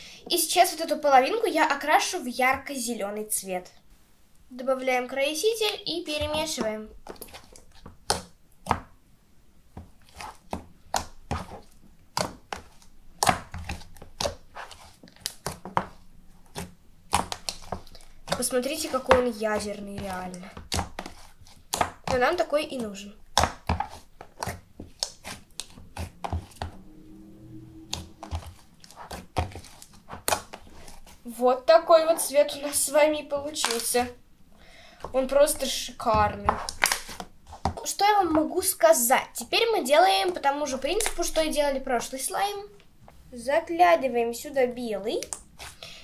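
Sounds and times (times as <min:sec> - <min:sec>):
slime squishing by hand: 0:05.6 - 0:09.0, 0:09.6 - 0:34.2, 0:35.0 - 0:43.2, 0:45.0 - 0:46.0.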